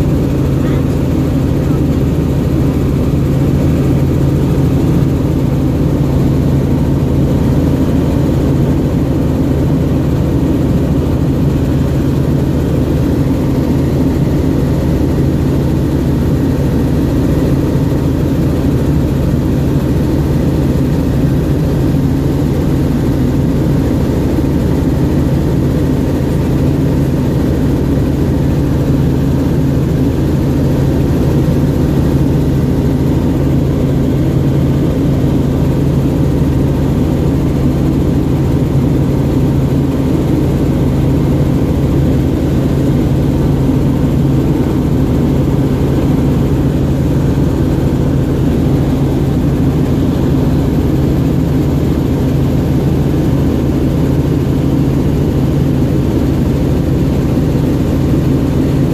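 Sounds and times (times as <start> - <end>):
helicopter engine and rotor drone: 0.0 - 58.9.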